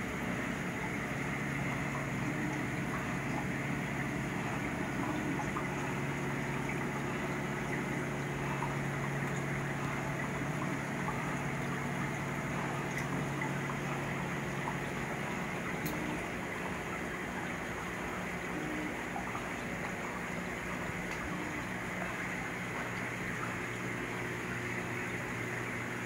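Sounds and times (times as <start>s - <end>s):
aquarium pump humming: 0.0s - 26.0s
water washing: 0.0s - 26.0s.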